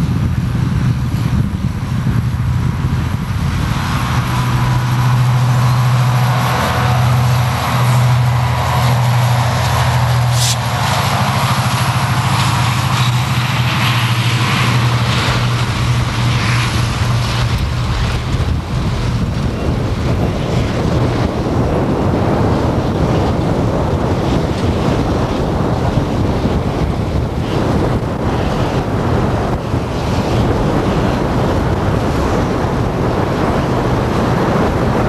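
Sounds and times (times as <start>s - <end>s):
engine drone: 0.0s - 35.0s
wind rushing over microphone: 0.0s - 35.0s.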